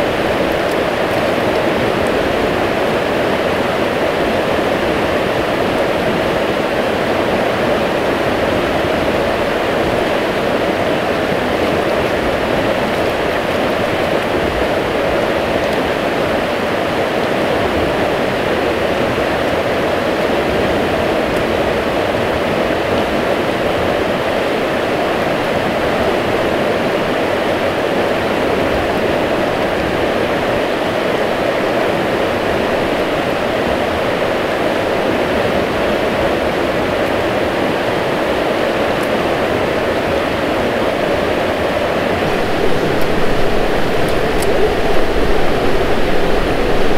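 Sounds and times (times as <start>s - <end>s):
river rapids rushing: 0.0s - 46.9s.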